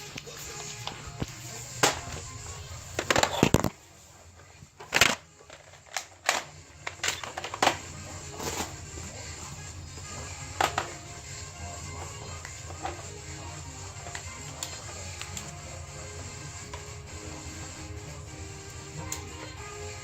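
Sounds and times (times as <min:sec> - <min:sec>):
music playing: 0:00.0 - 0:20.0.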